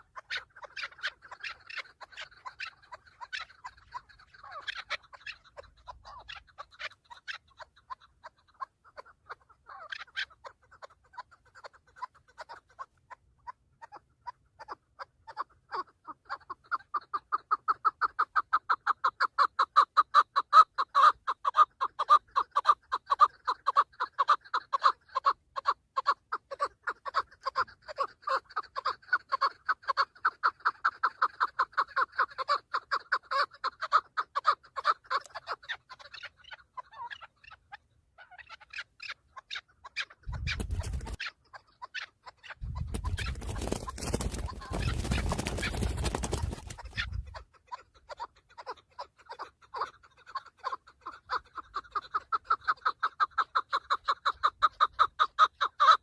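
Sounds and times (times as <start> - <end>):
partridge clucking calls: 0.0 - 56.0.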